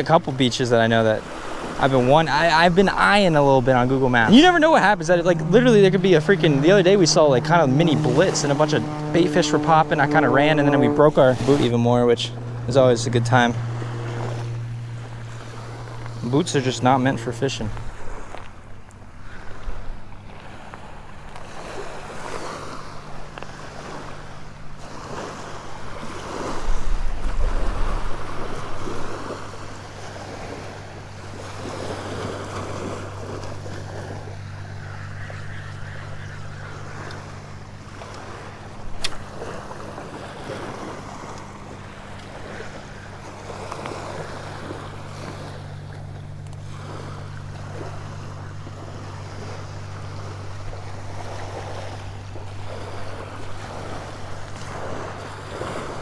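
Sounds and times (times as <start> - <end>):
small waves lapping on shore: 0.0 - 56.0
steady low hum: 0.0 - 56.0
wind buffeting microphone: 0.0 - 56.0.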